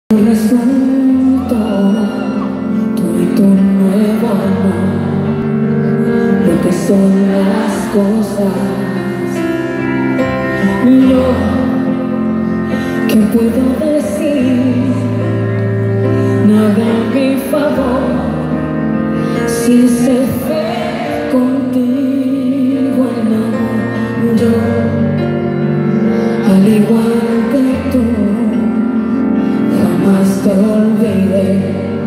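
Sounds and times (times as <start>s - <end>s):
woman singing a pop ballad: 0.1s - 9.9s, 10.6s - 32.0s
live band accompaniment: 0.1s - 32.0s.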